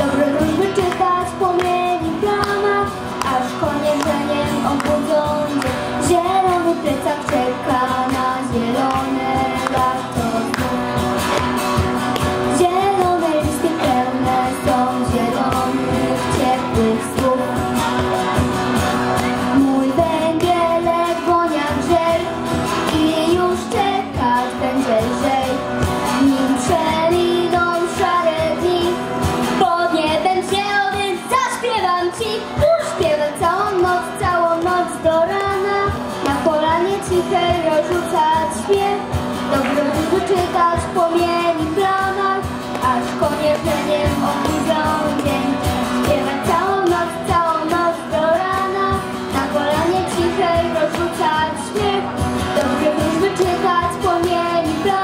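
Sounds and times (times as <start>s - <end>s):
backing music: 0.0s - 55.0s
girl singing into a microphone: 0.0s - 55.0s.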